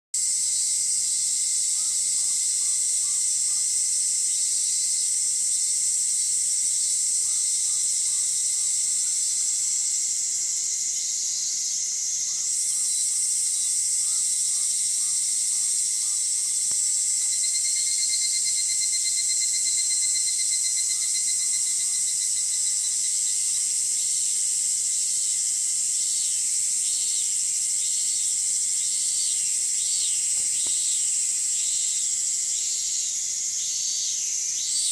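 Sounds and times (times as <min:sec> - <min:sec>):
cicadas and crickets shrilling: 0:00.2 - 0:34.9
pulsing cicada call: 0:00.2 - 0:34.9
repeated short insect notes: 0:00.2 - 0:34.9.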